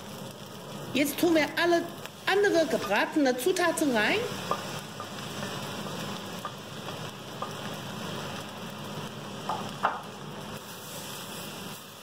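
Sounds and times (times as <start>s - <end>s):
rice sizzling in wok: 0.0s - 12.0s.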